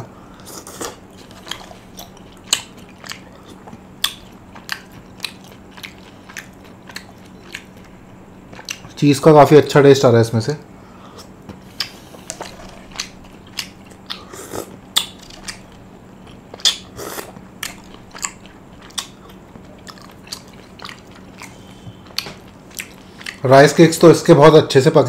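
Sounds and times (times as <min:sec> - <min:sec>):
close-miked chewing: 0:00.4 - 0:09.0, 0:11.2 - 0:23.8.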